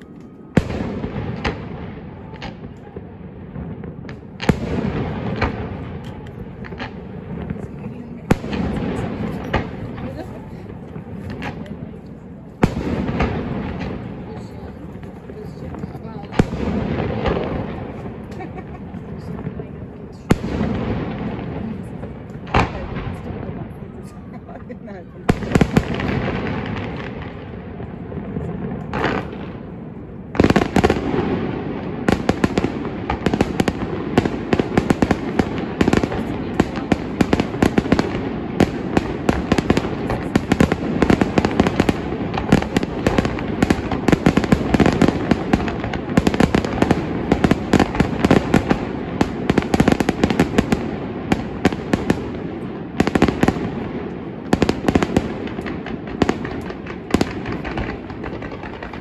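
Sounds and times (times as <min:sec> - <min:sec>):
fireworks banging and crackling: 0:00.0 - 0:59.0.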